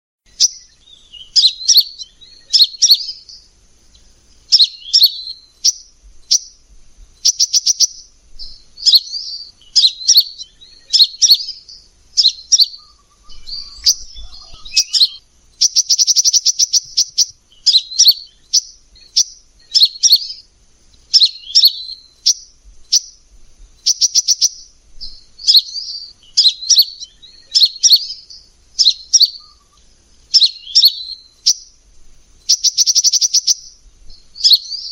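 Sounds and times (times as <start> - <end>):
bird chirping: 0.3 - 34.9
fast rattling bird trills: 0.3 - 34.9.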